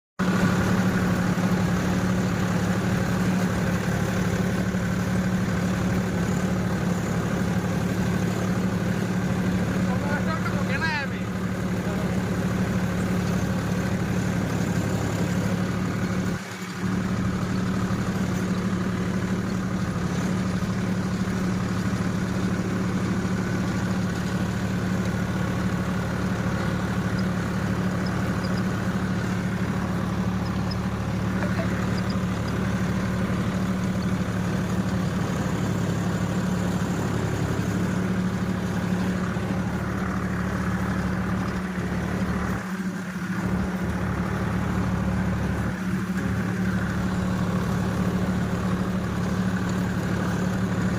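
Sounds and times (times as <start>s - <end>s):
tractor engine idling: 0.2s - 50.9s.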